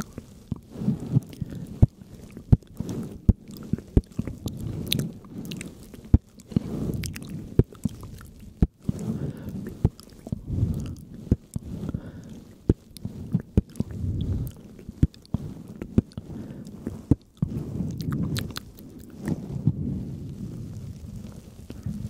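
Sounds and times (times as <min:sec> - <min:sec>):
sharp wet clicks: 0:00.0 - 0:19.4
soft squishing and rustling: 0:00.0 - 0:22.0.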